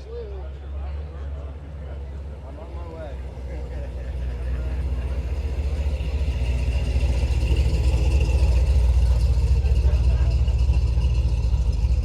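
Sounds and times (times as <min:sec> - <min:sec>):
car engine rumbling: 0:02.1 - 0:12.0.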